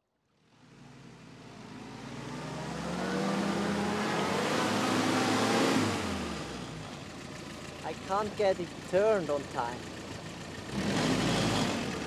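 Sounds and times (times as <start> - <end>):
jeep engine running: 0.5 - 12.0.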